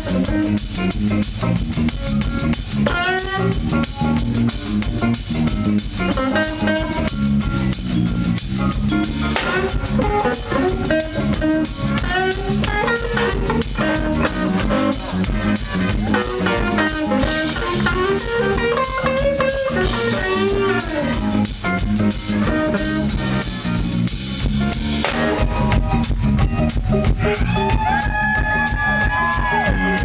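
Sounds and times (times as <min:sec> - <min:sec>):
blues band playing: 0:00.0 - 0:30.0
electric guitar lead with bends: 0:00.0 - 0:30.0.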